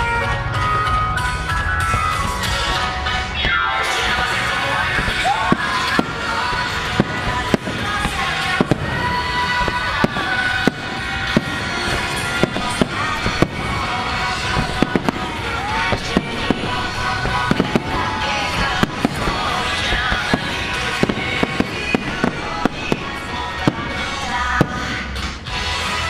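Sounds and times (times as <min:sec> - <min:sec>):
fireworks bursting: 0:00.0 - 0:26.0
music: 0:00.0 - 0:26.0.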